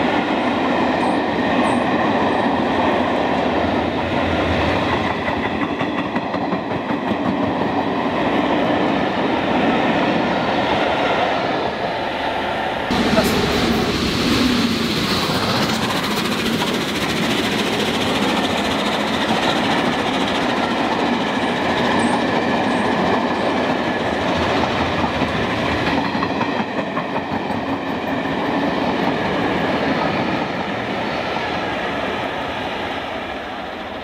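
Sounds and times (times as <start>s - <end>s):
steam train passing: 0.0s - 34.0s.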